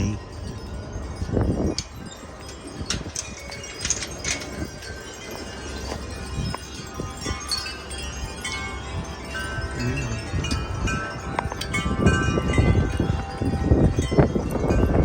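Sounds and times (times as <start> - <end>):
wind chimes ringing: 0.0 - 15.0
wind rumble on microphone: 0.0 - 15.0.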